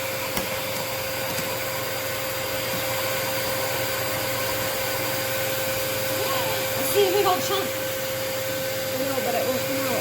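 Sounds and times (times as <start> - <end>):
vacuum cleaner whining: 0.0 - 10.0.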